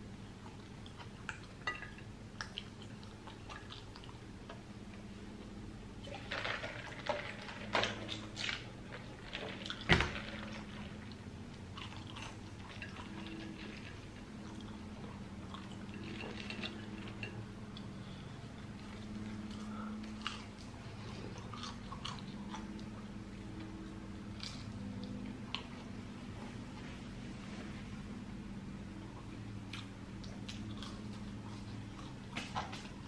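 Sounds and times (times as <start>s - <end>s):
close chewing and mouth noises: 0.0s - 27.2s, 28.9s - 33.0s
faint steady hum: 0.0s - 33.0s.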